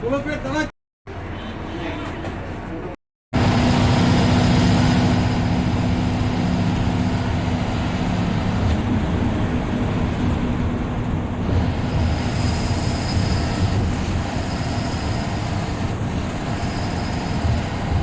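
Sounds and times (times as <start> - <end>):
bus diesel engine droning: 1.1 - 18.0
tyre and road noise: 1.1 - 18.0.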